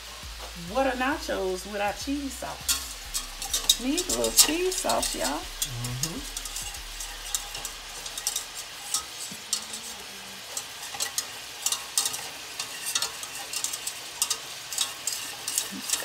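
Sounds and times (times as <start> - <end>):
light sizzle: 0.0 - 16.0
whisk scraping metal saucepan: 1.5 - 16.0.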